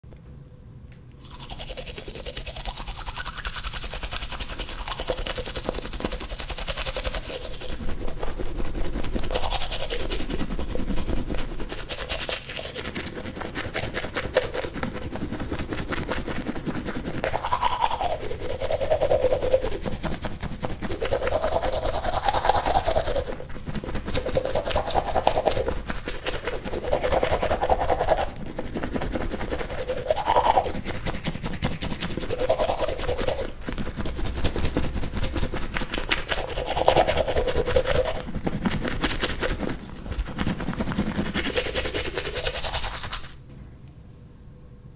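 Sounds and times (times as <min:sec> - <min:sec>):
toothbrush scrubbing teeth: 0:01.2 - 0:43.4.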